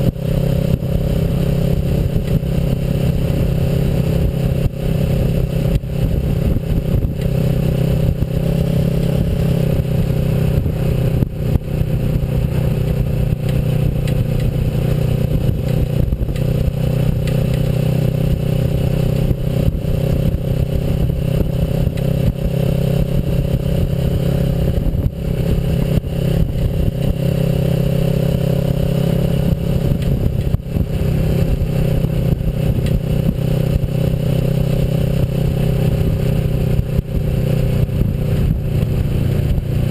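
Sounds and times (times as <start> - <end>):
knocks and rattles on dirt road: 0.0 - 3.8, 4.4 - 39.9
motorcycle engine running: 0.0 - 39.9.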